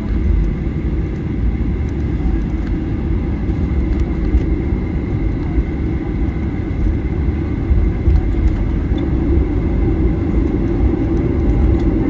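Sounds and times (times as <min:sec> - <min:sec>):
low rumble of engines and wheels: 0:00.0 - 0:12.0.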